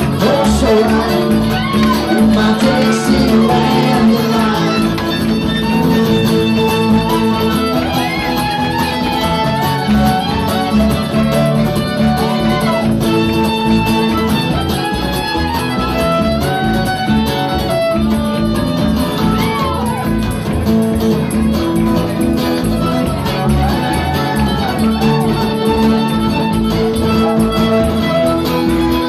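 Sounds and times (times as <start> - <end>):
strummed acoustic guitars: 0.0 - 29.0
fiddle playing sliding notes: 1.3 - 19.3, 22.8 - 29.0.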